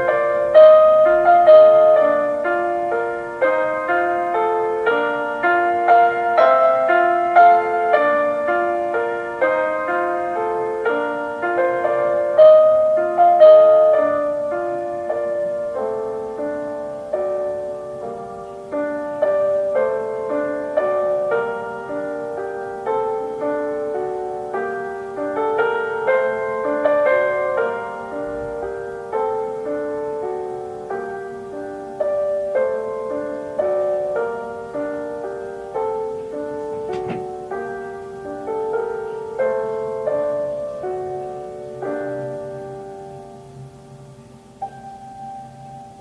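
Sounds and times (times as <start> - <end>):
solo piano classical piece: 0.0 - 46.0.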